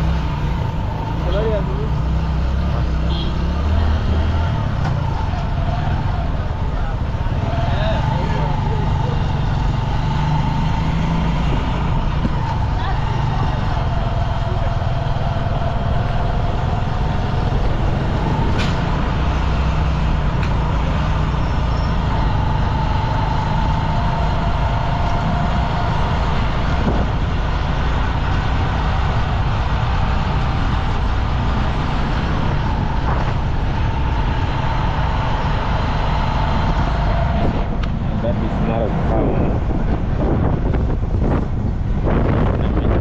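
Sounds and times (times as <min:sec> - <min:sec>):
vehicle engine rumble: 0:00.0 - 0:43.0.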